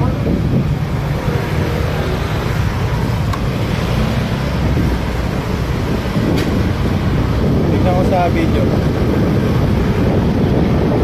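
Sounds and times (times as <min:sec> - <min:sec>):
motorcycle engine and road rumble: 0:00.0 - 0:11.0
wind on microphone: 0:00.0 - 0:11.0.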